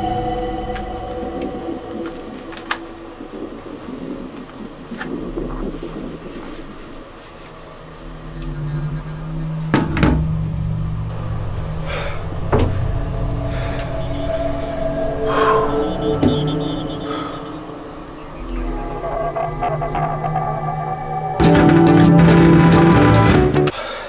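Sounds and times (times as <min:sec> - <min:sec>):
low musical drone: 0:00.0 - 0:04.4, 0:07.7 - 0:23.7.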